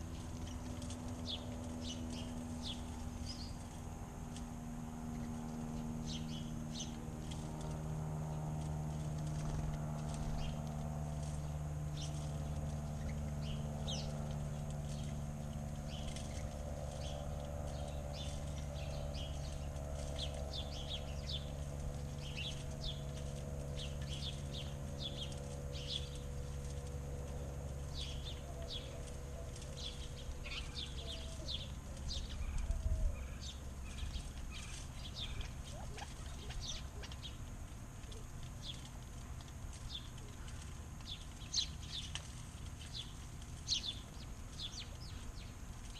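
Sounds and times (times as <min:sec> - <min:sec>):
songbirds chirping: 0:00.0 - 0:45.9
steady low hum: 0:00.0 - 0:45.9.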